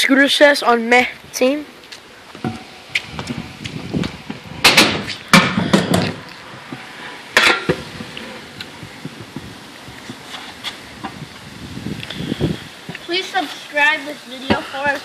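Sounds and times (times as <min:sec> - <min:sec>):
scooter wheels rolling on concrete: 0:00.0 - 0:15.0.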